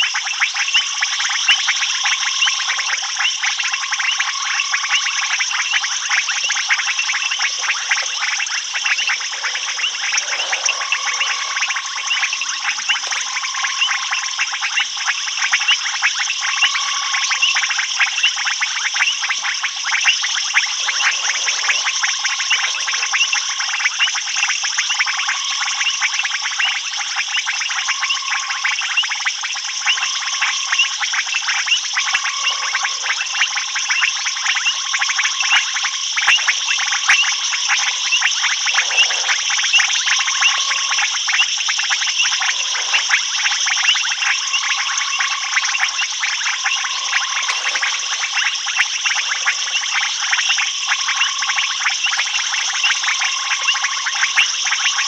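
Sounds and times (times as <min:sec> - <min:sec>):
frogs and insects trilling: 0:00.0 - 0:55.0.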